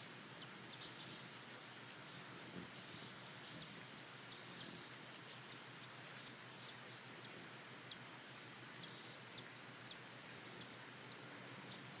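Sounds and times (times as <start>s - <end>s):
faint steady hiss: 0.0s - 12.0s
hummingbird chip calls: 0.4s - 12.0s.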